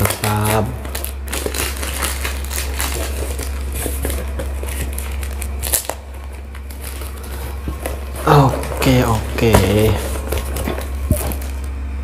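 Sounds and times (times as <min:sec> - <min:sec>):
packing tape peeling and tearing: 0:00.0 - 0:11.7.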